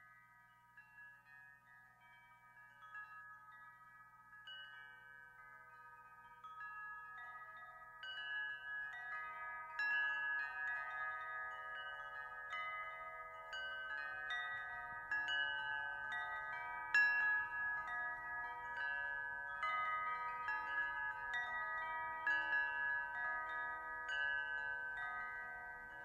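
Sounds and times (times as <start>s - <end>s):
wind chimes ringing: 0.0s - 26.0s.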